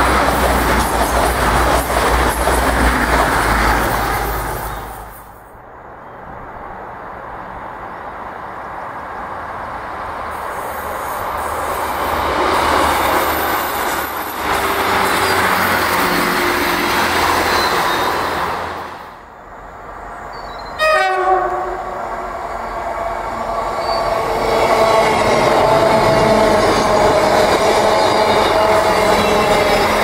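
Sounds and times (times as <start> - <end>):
train passing: 0.0 - 30.0.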